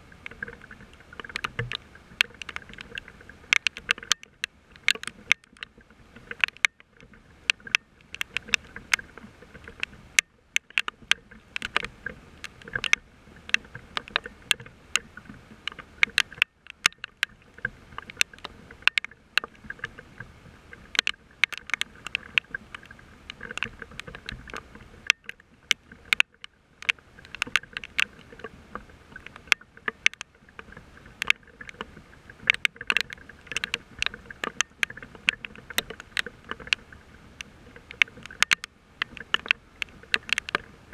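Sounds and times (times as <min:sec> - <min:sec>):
rain drops tapping: 0:00.0 - 0:40.9
rain hiss: 0:00.0 - 0:40.9.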